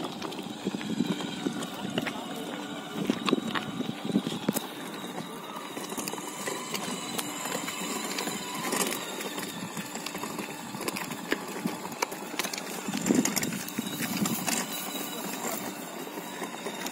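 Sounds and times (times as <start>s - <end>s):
toy motorcycle wheels rattling: 0.0s - 16.9s.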